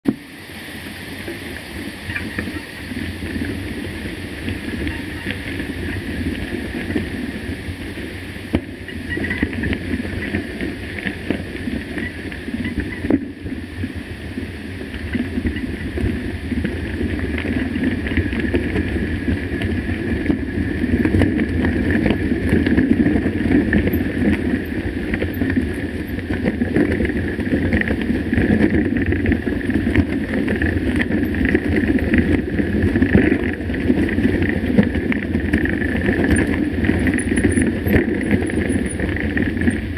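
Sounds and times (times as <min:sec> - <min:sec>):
bike tyres rumbling and rattling: 0:00.0 - 0:39.9
wind buffeting microphone: 0:00.4 - 0:39.9.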